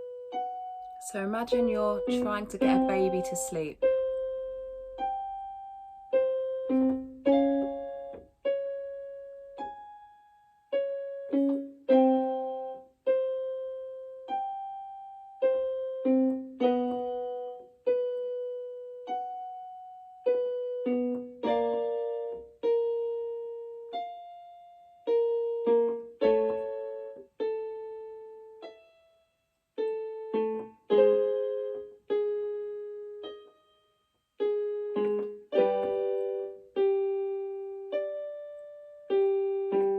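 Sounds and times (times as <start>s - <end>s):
electric piano single notes and chords: 0.0s - 39.9s.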